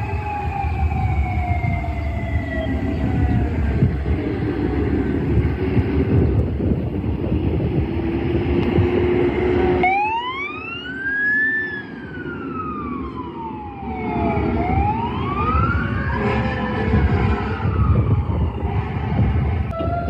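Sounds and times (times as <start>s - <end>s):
fire engine siren wailing: 0.0s - 20.0s
truck rumbling: 0.0s - 20.0s.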